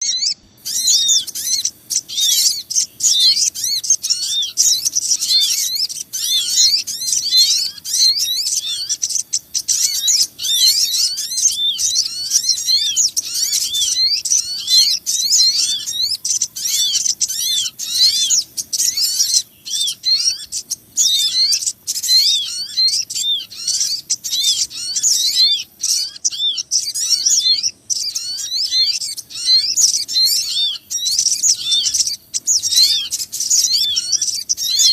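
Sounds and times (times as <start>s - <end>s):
small birds chirping agitatedly: 0.0s - 34.9s.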